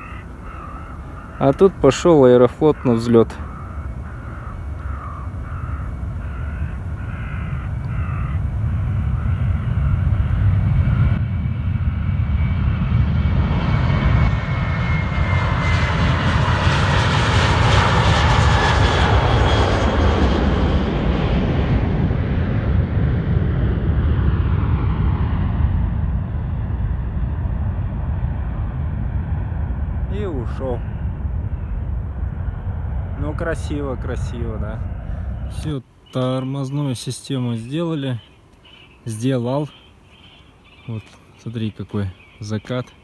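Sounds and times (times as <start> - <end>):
jet airliner taking off: 0.0 - 35.9.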